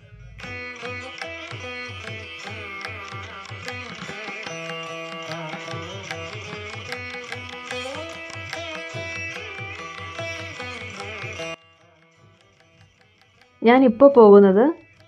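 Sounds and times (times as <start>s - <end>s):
plucked-string melody: 0.5s - 15.0s.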